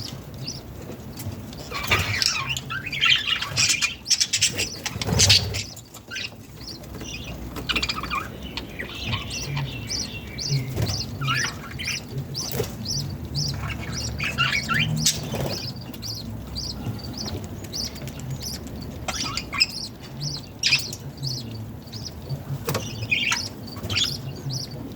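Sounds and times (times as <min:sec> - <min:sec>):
budgerigars chirping and warbling: 0:00.0 - 0:24.9.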